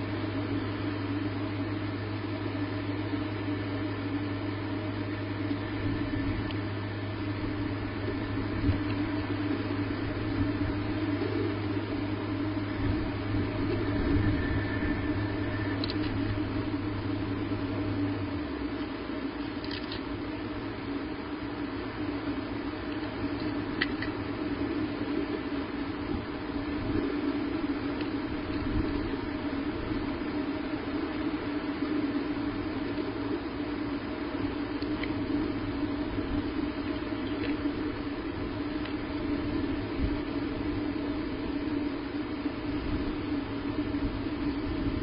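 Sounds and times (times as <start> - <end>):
constant hiss: 0.0 - 45.0
low electrical hum: 0.0 - 45.0.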